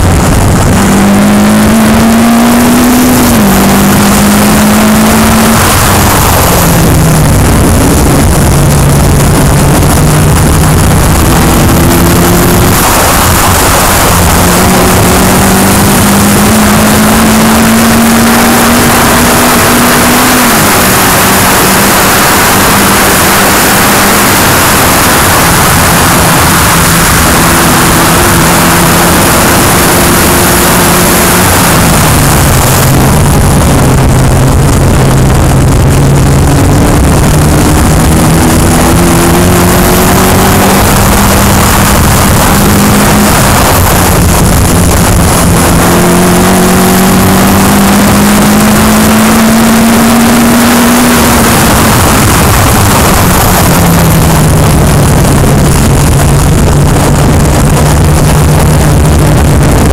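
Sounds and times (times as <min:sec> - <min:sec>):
race car engine revving: 0:00.0 - 0:59.9
wind rushing across microphone: 0:00.0 - 0:59.9.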